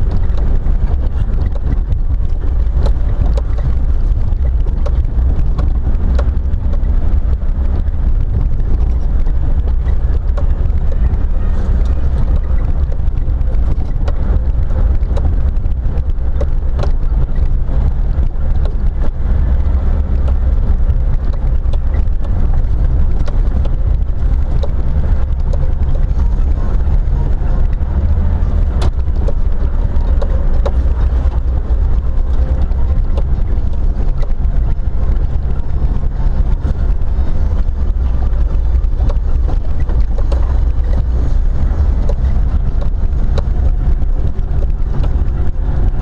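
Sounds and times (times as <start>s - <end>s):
knocks and rattles: 0.0s - 46.0s
low rumble of engine and tyres: 0.0s - 46.0s.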